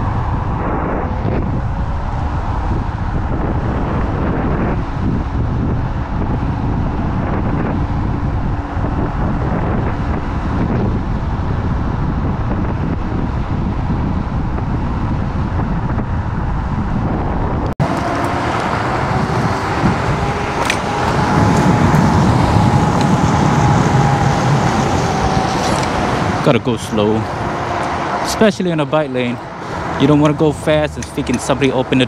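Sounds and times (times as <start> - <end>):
road and traffic noise: 0.0 - 32.0
wind rushing over microphone: 0.0 - 32.0.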